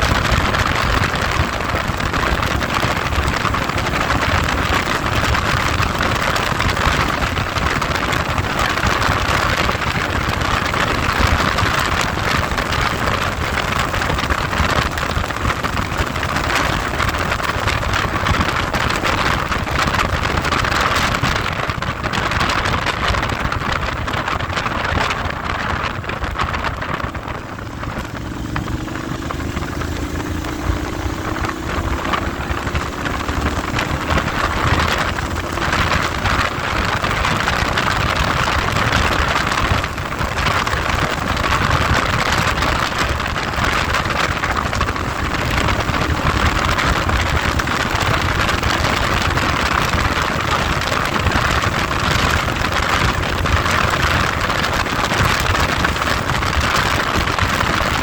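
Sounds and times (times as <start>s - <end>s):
engine and road rumble: 0.0s - 58.0s
wind noise on microphone: 0.0s - 58.0s.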